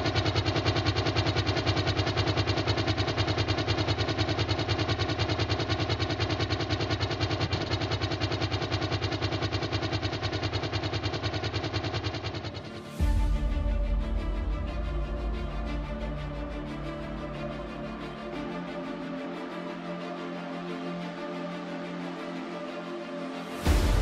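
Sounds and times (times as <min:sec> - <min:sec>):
helicopter rotor beating: 0:00.0 - 0:22.4, 0:23.5 - 0:24.0.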